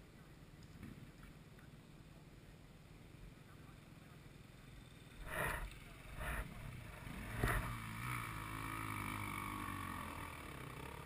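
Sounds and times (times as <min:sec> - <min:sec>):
distant motorcycle engine running: 0:00.2 - 0:11.0.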